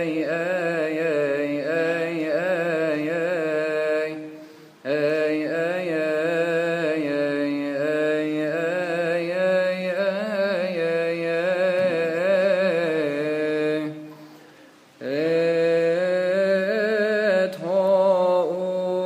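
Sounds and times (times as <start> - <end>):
man chanting: 0.0 - 14.2, 15.0 - 19.0.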